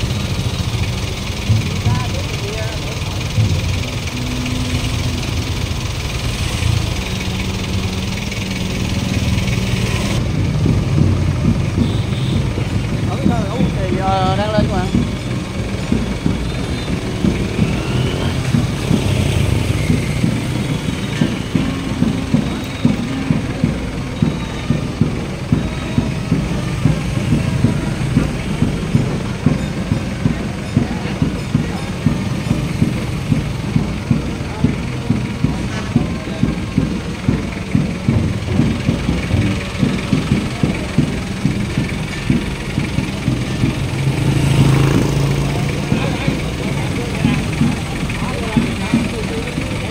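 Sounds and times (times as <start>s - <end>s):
vehicle engines rumbling: 0.0s - 49.9s.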